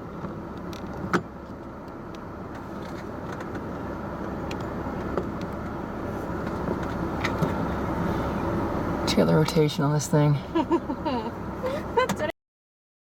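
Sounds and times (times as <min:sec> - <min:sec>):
car low rumble: 0:00.0 - 0:12.3.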